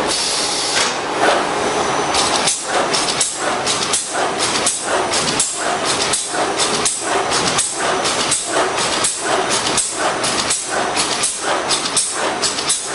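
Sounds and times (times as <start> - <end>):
bag cutting machine clatter and hiss: 0.0 - 12.9.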